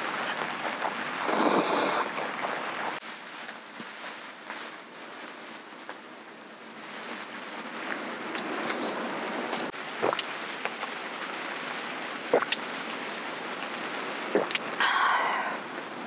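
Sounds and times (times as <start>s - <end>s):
wind and rain against a tent: 0.0s - 16.0s.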